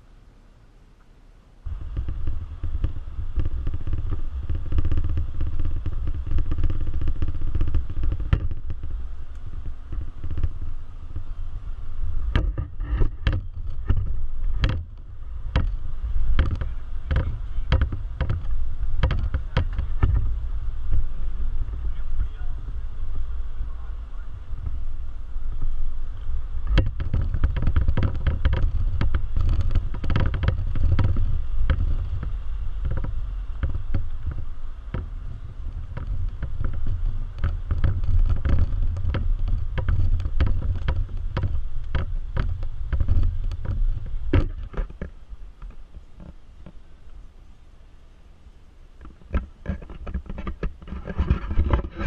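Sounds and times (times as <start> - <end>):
engine and drivetrain rumble: 0.0 - 52.0
rocks knocking under tyres: 1.6 - 46.9, 49.0 - 52.0.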